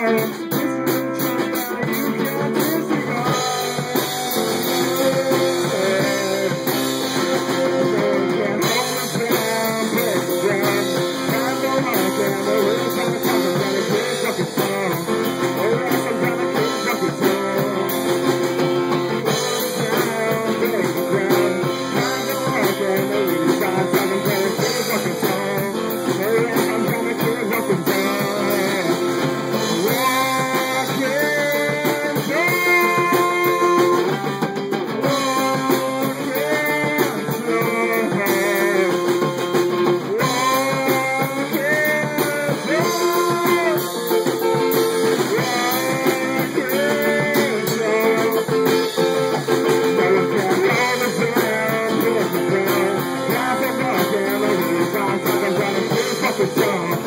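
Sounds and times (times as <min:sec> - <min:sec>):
boy singing into a microphone: 0:00.0 - 0:57.0
drum kit: 0:00.0 - 0:57.0
guitar strumming: 0:00.0 - 0:57.0.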